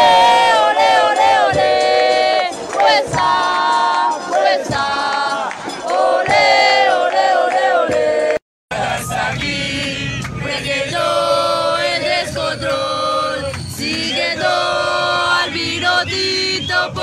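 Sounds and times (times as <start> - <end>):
crowd of men singing a chant: 0.0 - 17.0.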